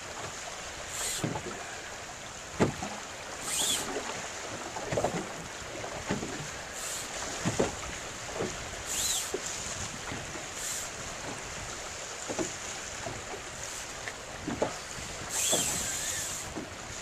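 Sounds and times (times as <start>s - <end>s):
water slapping boat hull: 0.0s - 17.0s.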